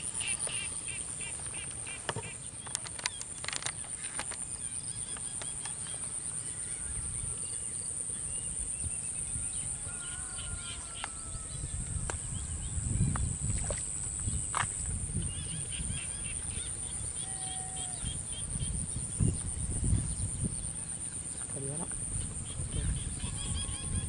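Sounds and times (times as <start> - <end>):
insect chirps: 0.0 - 24.0
insects droning: 0.0 - 24.0.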